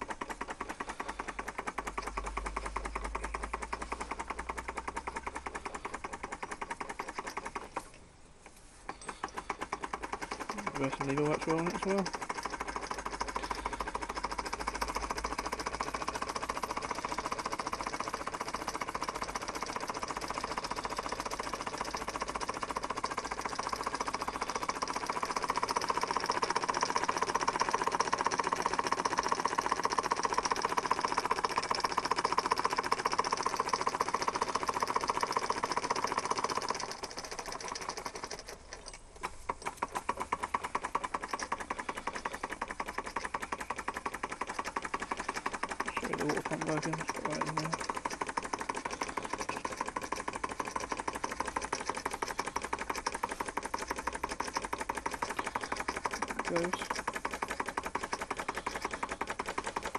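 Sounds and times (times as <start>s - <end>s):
toy steam engine clattering: 0.0s - 59.9s.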